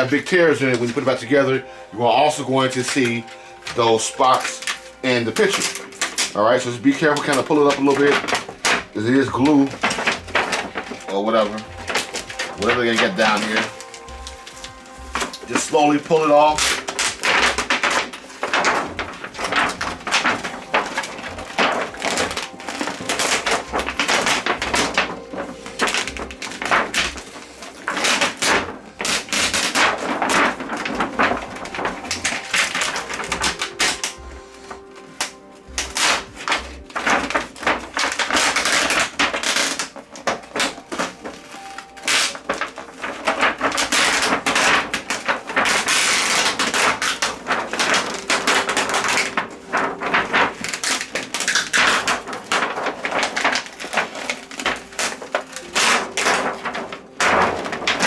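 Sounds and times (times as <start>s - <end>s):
paper crackling and crinkling: 0.0s - 58.0s.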